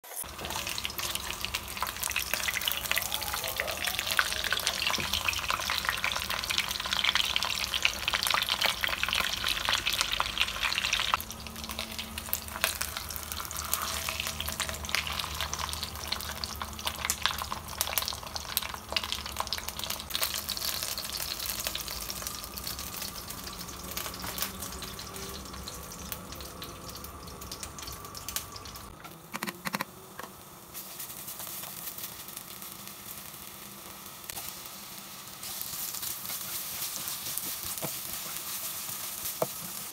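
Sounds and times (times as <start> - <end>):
fish frying in hot oil: 0.0 - 28.9, 30.4 - 39.9.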